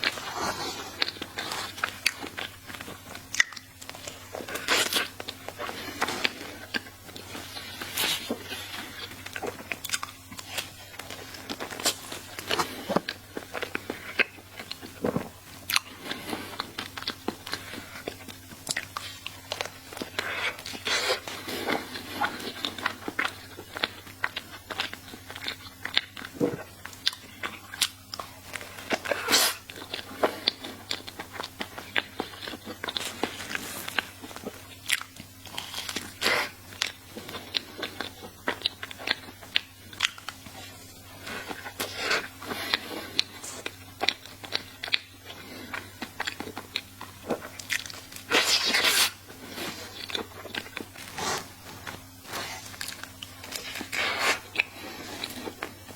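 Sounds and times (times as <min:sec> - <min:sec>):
close chewing: 0:00.0 - 0:55.9.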